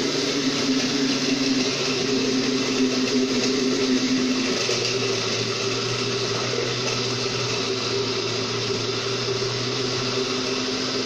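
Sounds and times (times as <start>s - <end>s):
blender motor running: 0.0s - 11.0s.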